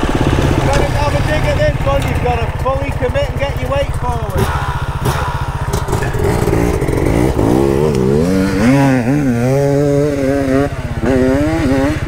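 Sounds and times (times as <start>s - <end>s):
dirt bike engine revving: 0.0s - 12.0s
dirt bike idling: 0.0s - 12.0s.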